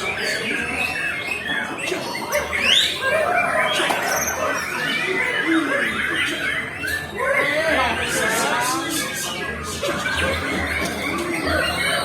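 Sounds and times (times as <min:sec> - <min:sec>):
other birdsong: 0:00.0 - 0:12.0
voices: 0:00.0 - 0:12.0.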